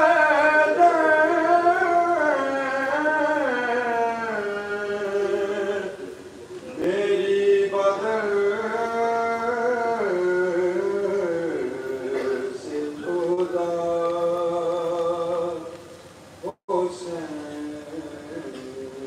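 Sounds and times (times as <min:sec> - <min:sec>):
man chanting a lament: 0:00.0 - 0:06.0, 0:06.8 - 0:15.7, 0:16.4 - 0:19.0.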